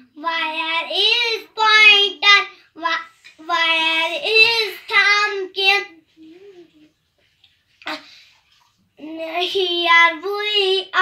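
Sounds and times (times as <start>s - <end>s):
child singing: 0.0s - 6.9s, 9.0s - 11.0s.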